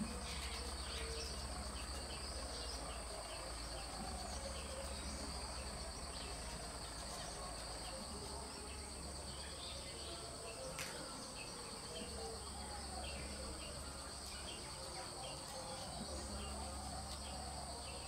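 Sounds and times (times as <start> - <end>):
faint bird chirps: 0.0 - 18.0
high-pitched insect drone: 0.0 - 18.0.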